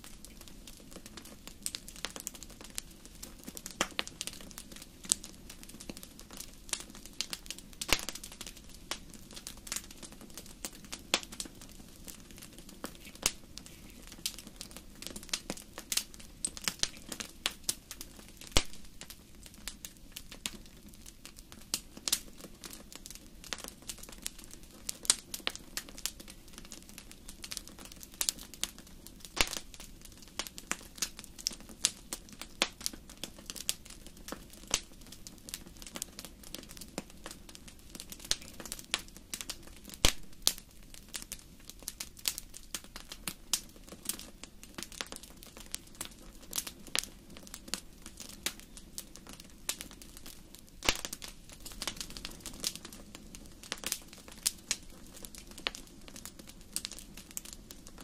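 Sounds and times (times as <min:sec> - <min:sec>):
fire crackling and popping: 0:00.0 - 0:58.0
low rush of flames: 0:00.0 - 0:58.0.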